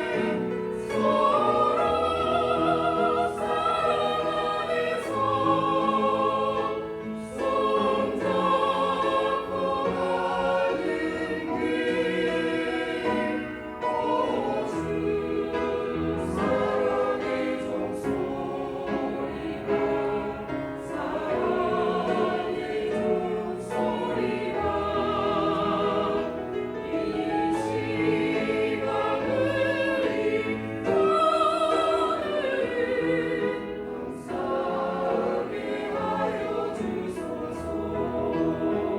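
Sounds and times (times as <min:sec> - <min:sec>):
church choir singing: 0:00.0 - 0:38.9.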